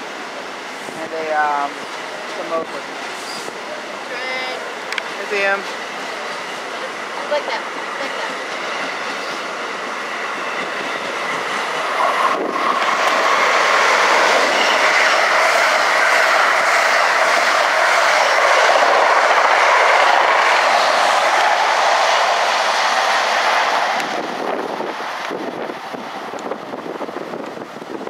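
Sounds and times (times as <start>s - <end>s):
train wheels rumbling and clattering: 0.0s - 28.0s.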